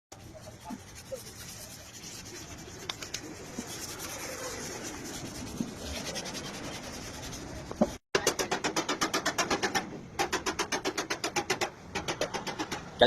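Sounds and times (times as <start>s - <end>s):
rubbing and scraping on a surface: 0.1s - 13.0s.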